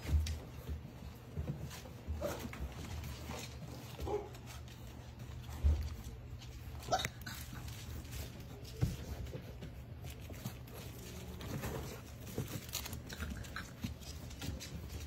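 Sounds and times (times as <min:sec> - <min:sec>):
puppies scratching and tapping: 0:00.0 - 0:15.0.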